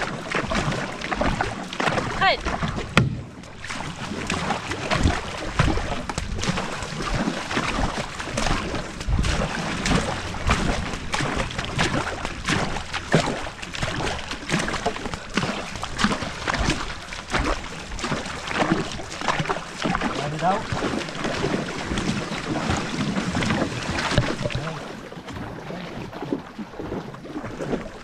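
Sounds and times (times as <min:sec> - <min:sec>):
canoe paddle strokes: 0:00.0 - 0:28.0
water splashing along hull: 0:00.0 - 0:28.0.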